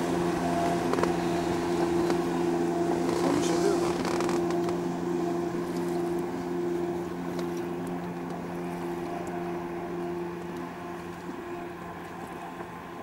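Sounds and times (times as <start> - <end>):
motorboat engine running: 0.0 - 13.0
wind and water hiss: 0.0 - 13.0.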